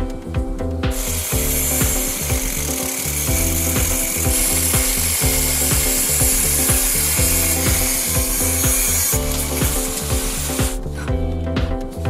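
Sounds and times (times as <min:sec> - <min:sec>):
background music with beat: 0:00.0 - 0:12.0
angle grinder grinding steel: 0:01.0 - 0:10.8.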